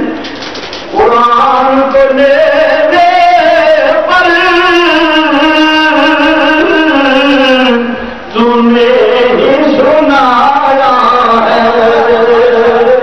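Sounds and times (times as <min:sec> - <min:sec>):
man chanting: 0:00.9 - 0:13.0.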